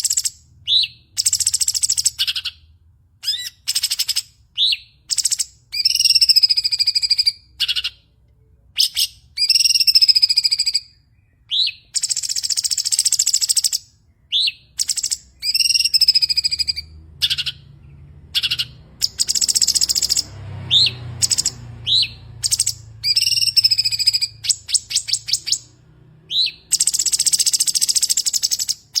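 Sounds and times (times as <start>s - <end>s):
bird singing rattling trills: 0.0s - 2.6s, 3.2s - 8.0s, 8.8s - 29.0s.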